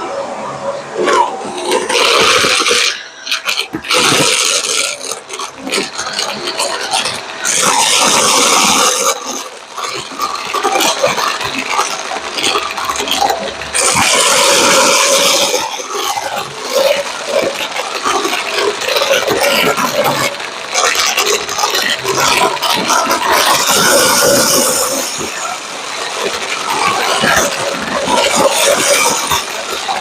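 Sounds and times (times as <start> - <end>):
hissing rushes: 0.2 - 30.0.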